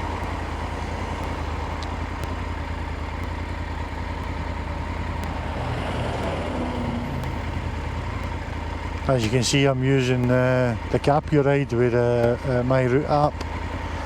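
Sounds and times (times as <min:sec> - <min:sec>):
motorcycle engine rumbling: 0:00.0 - 0:14.0
wind and road noise: 0:00.0 - 0:14.0.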